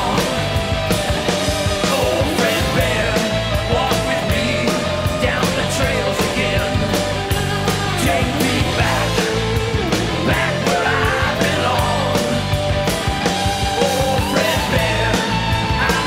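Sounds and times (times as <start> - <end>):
bending lead melody: 0.0 - 16.0
drum beat: 0.0 - 16.0
rock music: 0.0 - 16.0.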